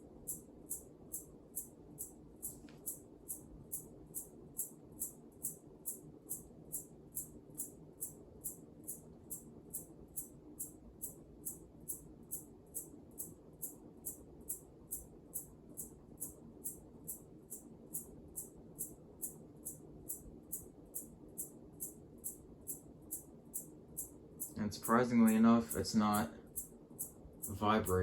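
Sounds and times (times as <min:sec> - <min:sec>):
ceiling fan humming: 0:00.0 - 0:28.0
fan blade ticking: 0:00.2 - 0:28.0.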